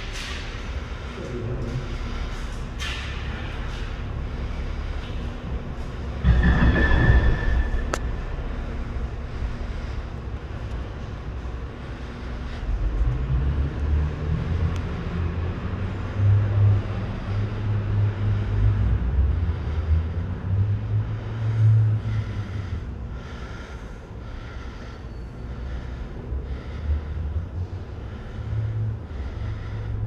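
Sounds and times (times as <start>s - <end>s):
heavy engine rumbling: 0.0s - 30.0s.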